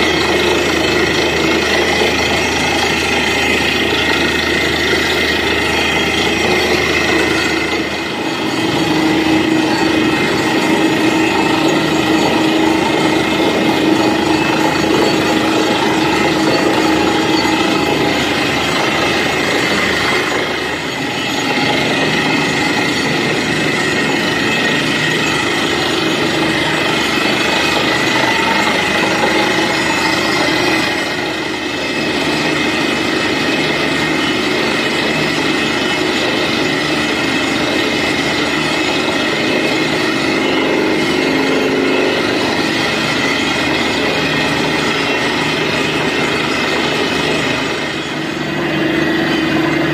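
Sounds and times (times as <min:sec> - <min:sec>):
drilling rig running: 0:00.0 - 0:49.9.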